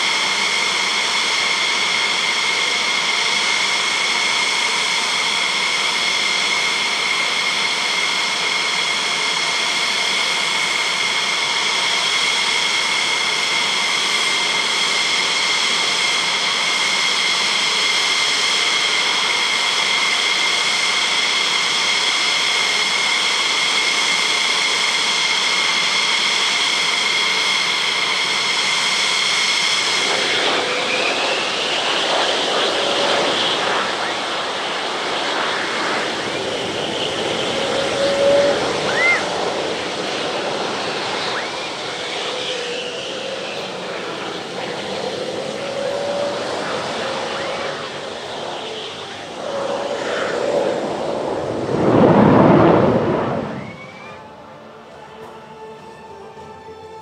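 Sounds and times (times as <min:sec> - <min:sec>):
jet engines idling: 0:00.0 - 0:57.0.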